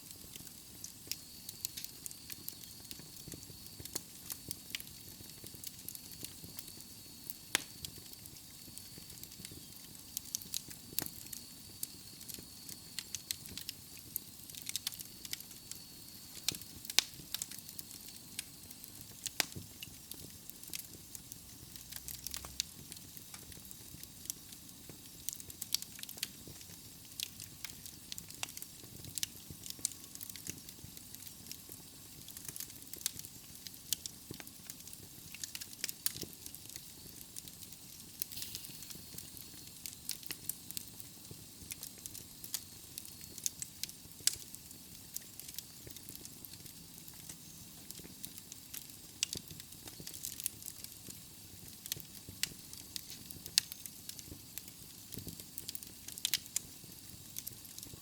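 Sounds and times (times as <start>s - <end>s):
fire hissing: 0.0s - 58.0s
wood fire crackling and popping: 0.0s - 58.0s.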